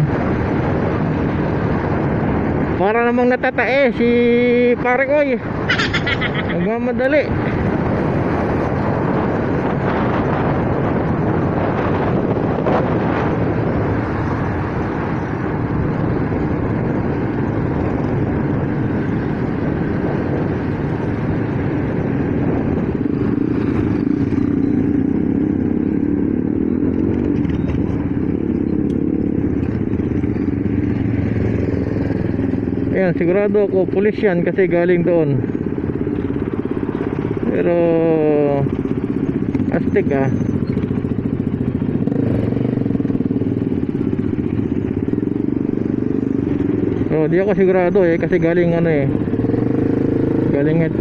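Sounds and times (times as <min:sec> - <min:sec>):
motorcycle engine running: 0:00.0 - 0:51.0
wind rushing over microphone: 0:00.0 - 0:51.0.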